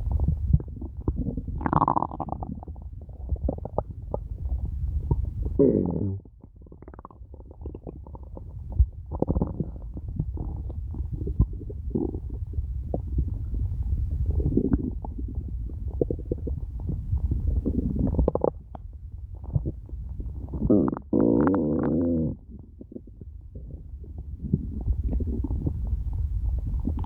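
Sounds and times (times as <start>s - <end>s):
stomach growling: 0.0s - 27.0s.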